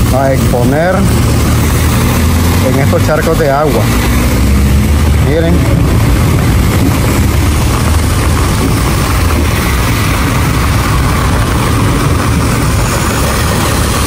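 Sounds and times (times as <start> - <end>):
car engines running: 0.0 - 14.0
dense rush of noise: 0.0 - 14.0
tyres splashing through water: 0.0 - 14.0.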